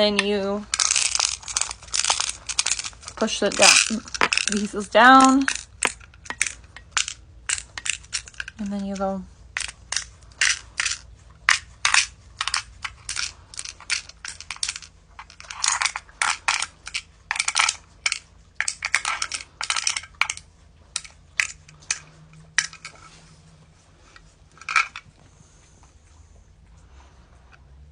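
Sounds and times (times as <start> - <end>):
magnetic pieces clicking: 0.0 - 23.1.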